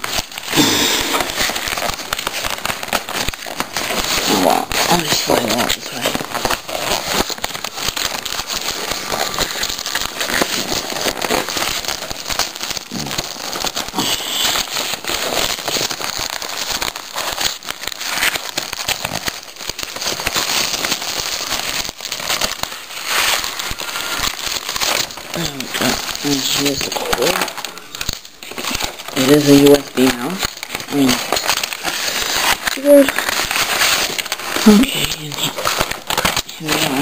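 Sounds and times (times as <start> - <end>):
packaging crinkling: 0.0 - 37.0.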